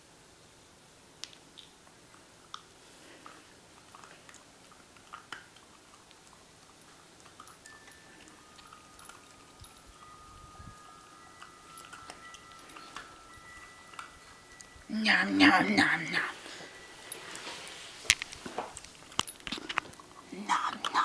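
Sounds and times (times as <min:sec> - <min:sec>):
dog chewing treat crunching: 0:01.5 - 0:21.0.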